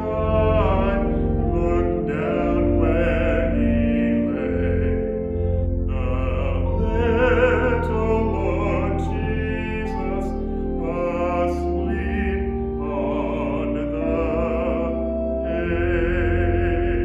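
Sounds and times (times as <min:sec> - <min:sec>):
low held accompaniment notes: 0:00.0 - 0:17.0
person singing with vibrato: 0:00.0 - 0:17.0.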